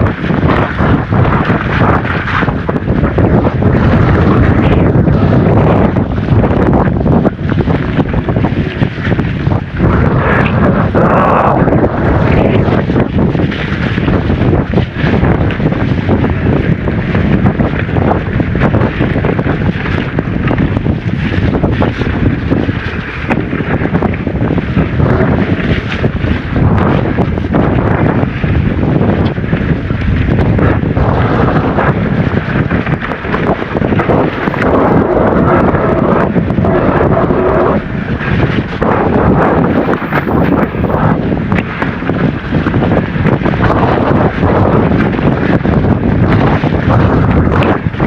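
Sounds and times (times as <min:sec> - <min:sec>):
bike rattling on trail: 0:00.0 - 0:48.0
wind buffeting microphone: 0:00.0 - 0:48.0.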